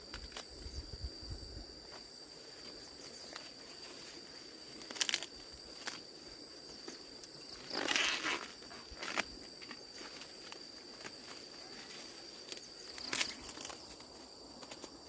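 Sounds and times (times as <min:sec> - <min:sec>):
dry corn plants rustling: 0:00.0 - 0:15.0
insect drone: 0:00.0 - 0:15.0.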